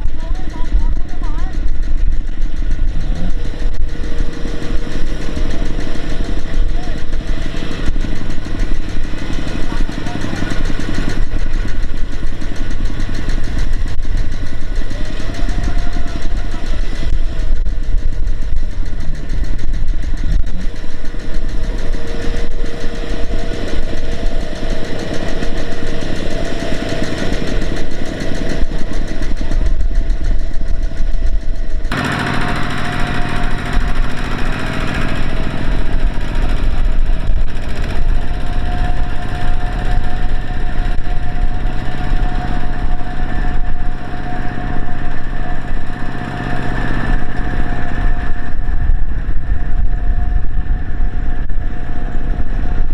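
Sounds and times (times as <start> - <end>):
diesel engine running loudly: 0.0 - 52.9.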